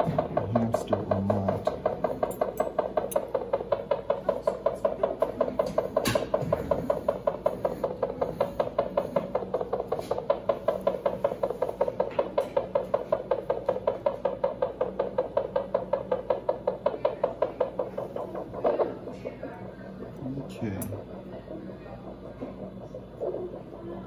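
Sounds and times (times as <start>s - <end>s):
monitor heartbeat pulse: 0.0s - 24.0s.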